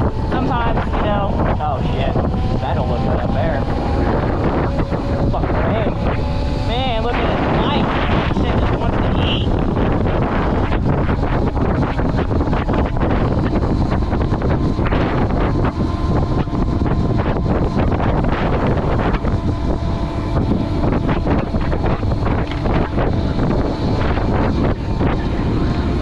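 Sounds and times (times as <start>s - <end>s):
electric motor whine: 0.0s - 26.0s
wind buffeting microphone: 0.0s - 26.0s.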